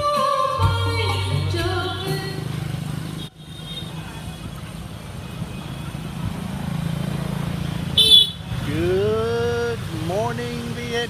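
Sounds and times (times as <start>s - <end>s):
vehicle engine low rumble: 1.2s - 11.0s.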